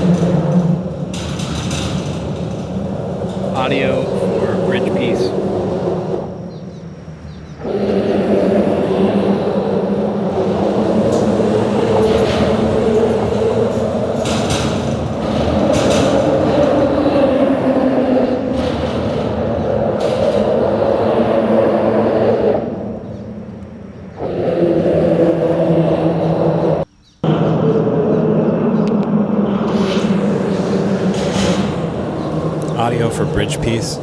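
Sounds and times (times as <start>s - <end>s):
loud mechanical rumble: 0.0s - 34.0s.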